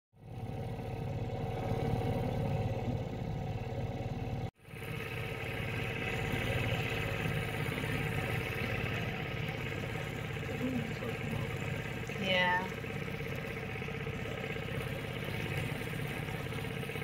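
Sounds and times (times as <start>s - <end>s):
outboard motor running: 0.2s - 17.0s.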